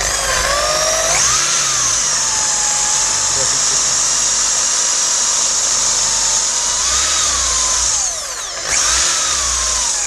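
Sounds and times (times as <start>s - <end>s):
electric drill whining: 0.0s - 10.0s.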